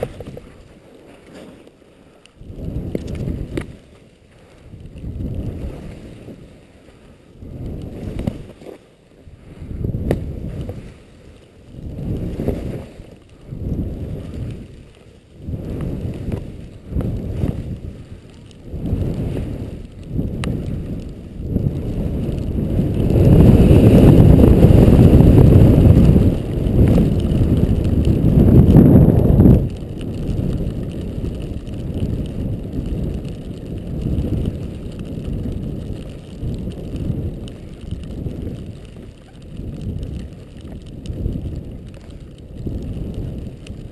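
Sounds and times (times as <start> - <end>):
wind on microphone: 0.0 - 0.8, 2.3 - 43.9
loud steady snow rush: 0.0 - 43.9
skis swishing through powder snow: 0.0 - 43.9.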